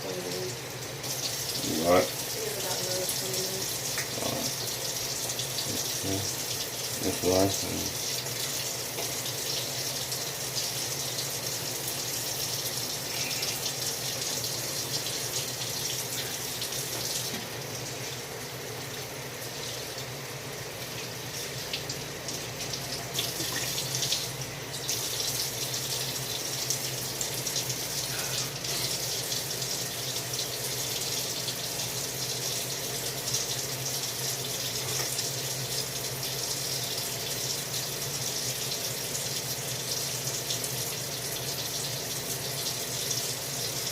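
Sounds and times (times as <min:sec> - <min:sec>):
tap water running into sink: 0:00.0 - 0:43.9.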